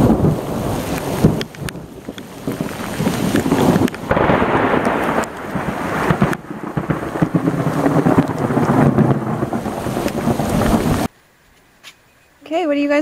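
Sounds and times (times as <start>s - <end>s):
heavy rain pouring: 0.0s - 11.1s
low thunder rumble: 0.0s - 11.1s.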